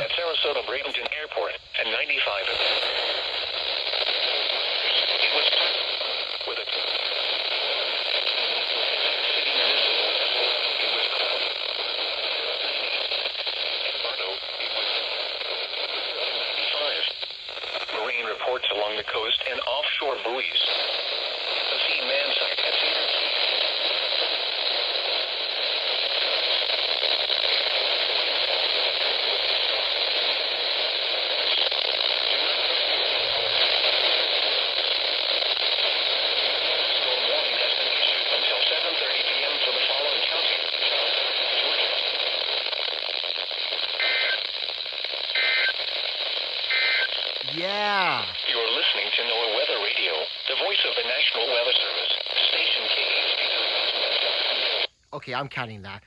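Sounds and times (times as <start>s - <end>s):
radio interference: 0.0s - 56.0s
radio static hiss: 0.0s - 56.0s.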